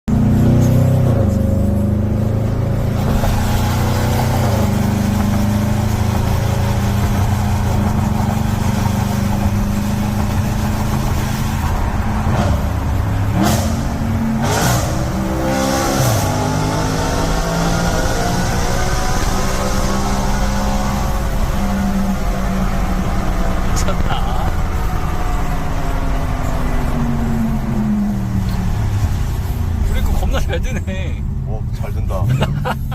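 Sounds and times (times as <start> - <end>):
car engine in a tunnel: 0.1 - 32.9.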